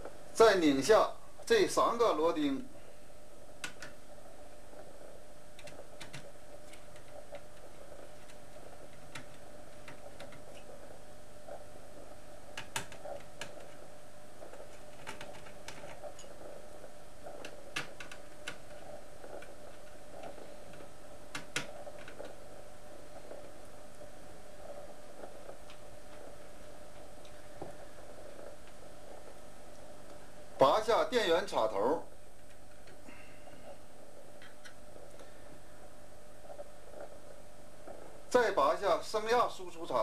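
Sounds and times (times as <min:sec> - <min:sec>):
background hiss and hum: 0:00.0 - 0:40.0.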